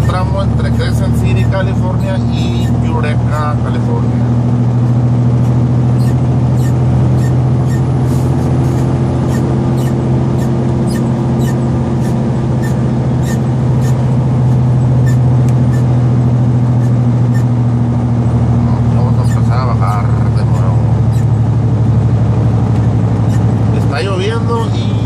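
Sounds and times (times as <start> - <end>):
truck engine low hum: 0.0 - 25.0.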